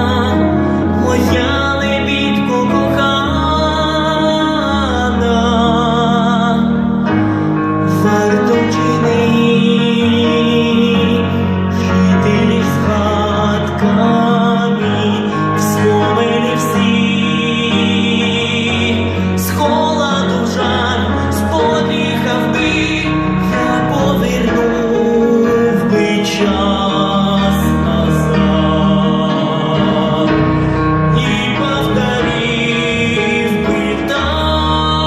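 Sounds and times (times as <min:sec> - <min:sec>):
instrumental accompaniment: 0:00.0 - 0:35.0
man singing with vibrato: 0:00.0 - 0:35.0.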